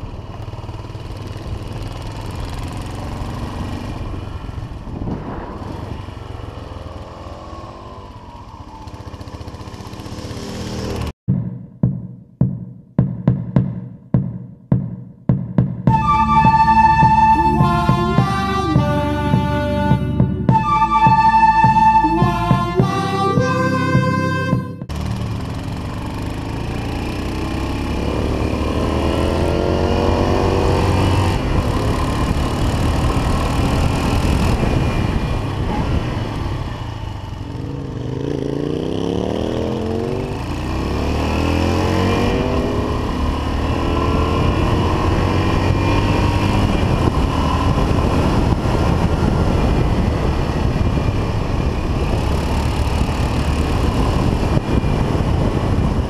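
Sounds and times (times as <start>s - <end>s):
motorcycle engine accelerating: 0.0s - 11.2s, 13.3s - 56.0s.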